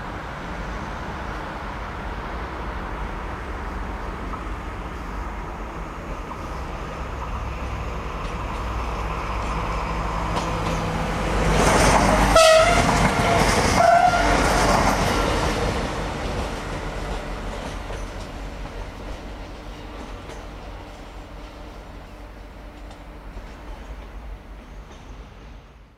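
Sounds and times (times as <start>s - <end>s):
electric train passing: 0.0s - 25.9s.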